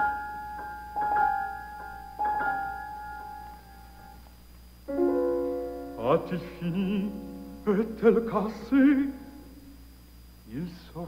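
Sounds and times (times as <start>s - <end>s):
piano chords: 0.0s - 4.3s, 4.9s - 9.5s.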